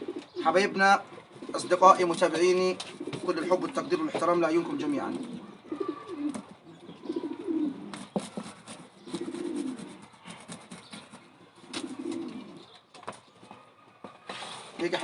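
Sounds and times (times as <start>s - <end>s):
pigeons cooing: 0.0s - 13.4s.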